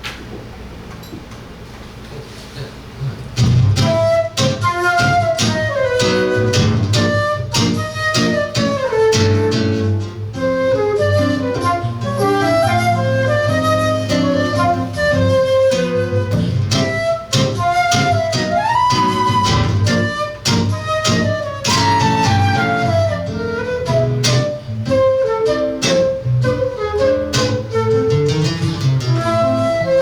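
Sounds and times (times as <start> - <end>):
seven-string guitar: 3.4 - 30.0
flute melody: 3.7 - 30.0.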